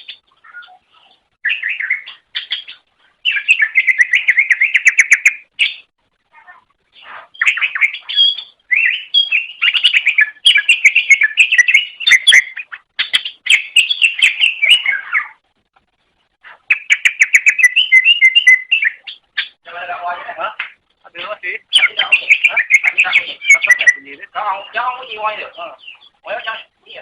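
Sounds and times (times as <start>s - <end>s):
bird singing rapid chirps: 0.0s - 5.9s, 7.3s - 15.4s, 16.7s - 19.6s, 21.2s - 26.7s.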